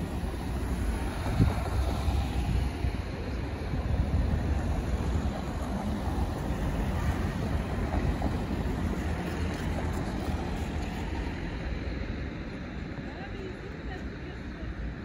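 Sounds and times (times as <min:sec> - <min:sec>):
cars passing: 0:00.0 - 0:15.0
wind rumble on microphone: 0:00.0 - 0:15.0.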